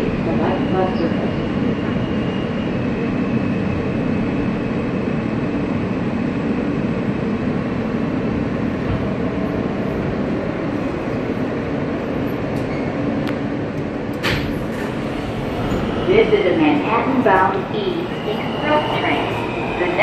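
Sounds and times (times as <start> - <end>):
subway car rumble: 0.0 - 20.0.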